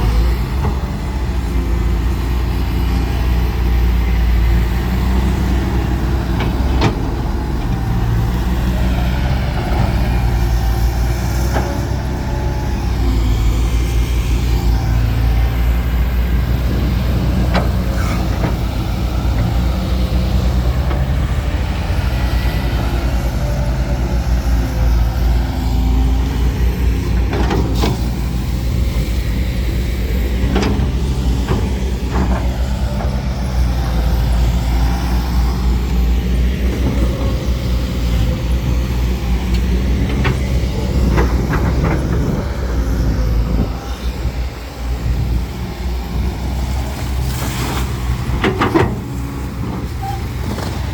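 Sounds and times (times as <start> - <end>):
heavy diesel machinery droning: 0.0 - 50.9.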